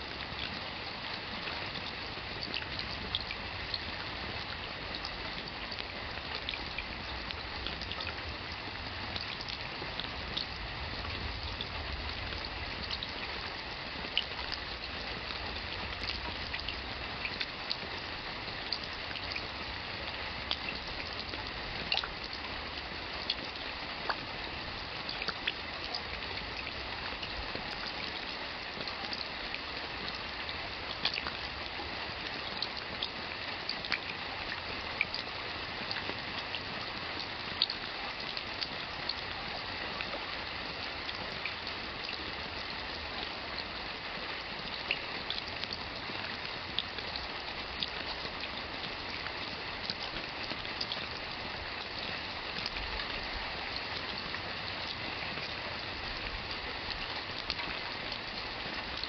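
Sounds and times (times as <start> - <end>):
raindrops splashing: 0.0 - 59.0
steady rain: 0.0 - 59.0.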